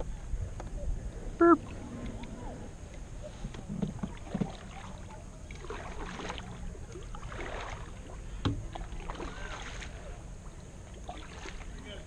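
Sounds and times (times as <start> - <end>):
low steady rumble: 0.0 - 12.0
water moving around kayak: 0.0 - 12.0.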